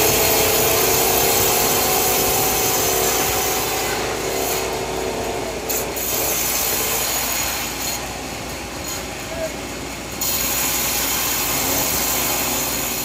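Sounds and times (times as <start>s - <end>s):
power saw cutting wood: 0.0s - 13.0s.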